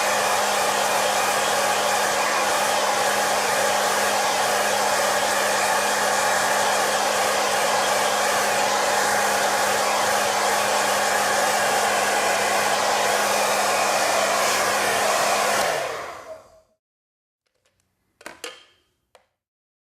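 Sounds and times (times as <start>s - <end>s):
hair dryer blowing: 0.0s - 16.8s.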